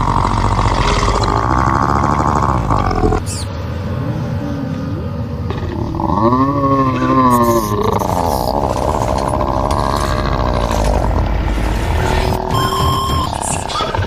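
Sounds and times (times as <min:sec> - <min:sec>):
dense rumbling din: 0:00.0 - 0:14.0.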